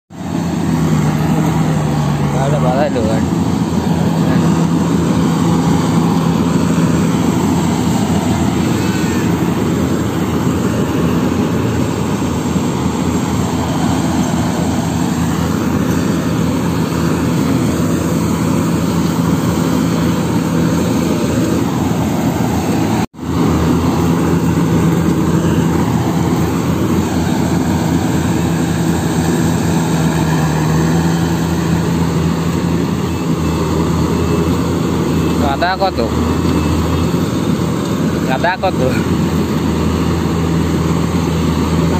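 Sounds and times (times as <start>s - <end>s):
combine harvester droning: 0.1s - 41.9s.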